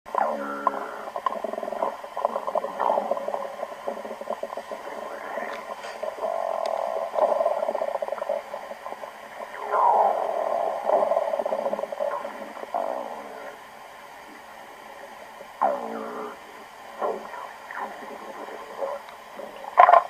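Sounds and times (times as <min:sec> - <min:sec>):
stomach growling: 0:00.1 - 0:20.0.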